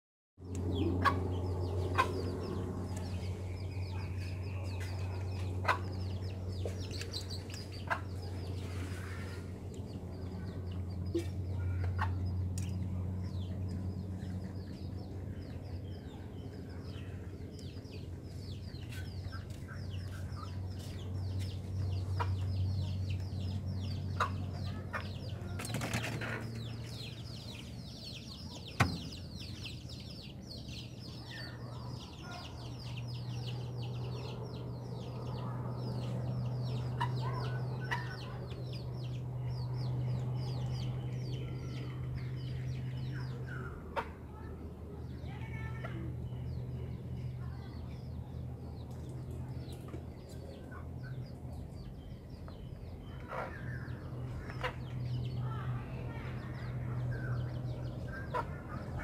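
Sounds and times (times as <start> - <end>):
birds chirping: 0.4 - 59.0
steady low hum: 0.4 - 59.0.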